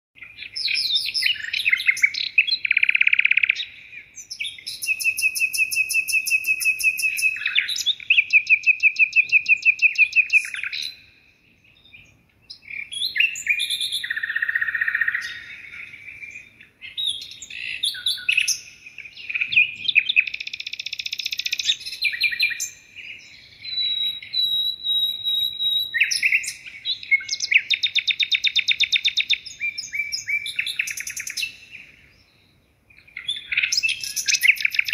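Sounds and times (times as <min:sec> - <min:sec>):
songbird chirping and trilling: 0:00.2 - 0:34.9.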